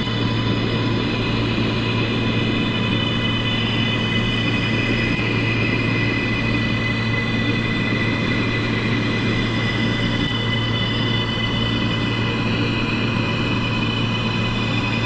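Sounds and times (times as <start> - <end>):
train high whine: 0.0 - 15.0.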